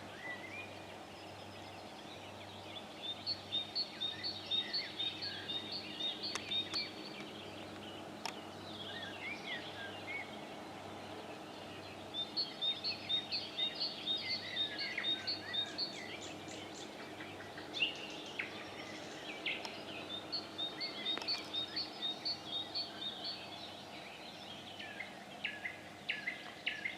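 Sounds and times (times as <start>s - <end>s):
faint low hum: 0.0s - 26.9s
songbirds singing: 0.0s - 26.9s.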